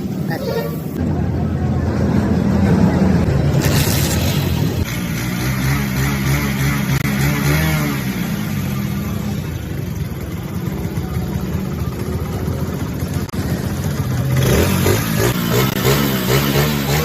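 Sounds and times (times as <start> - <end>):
motorcycle engine revving: 2.6 - 17.0.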